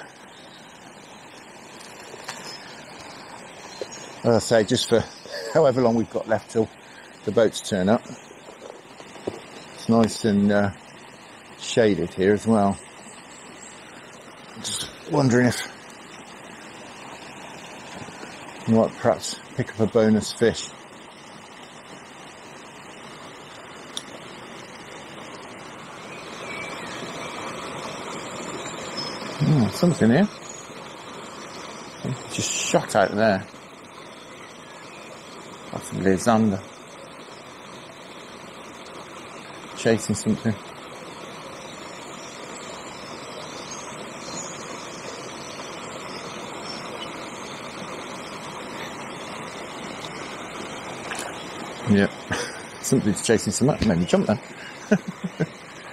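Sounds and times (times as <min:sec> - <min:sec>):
water rushing over a weir: 0:00.0 - 0:55.9.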